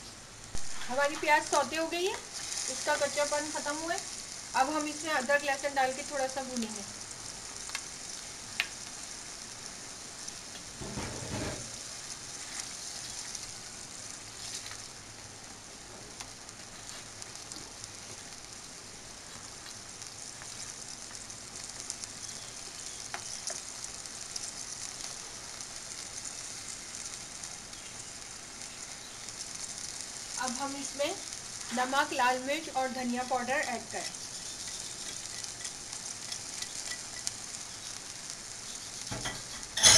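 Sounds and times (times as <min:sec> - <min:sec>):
paste sizzling in hot oil: 0:00.0 - 0:39.9.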